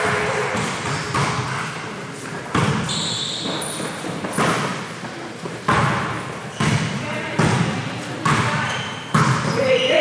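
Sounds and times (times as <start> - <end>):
basketball bouncing on gym floor: 0.5 - 1.8, 2.4 - 4.8, 5.6 - 10.0.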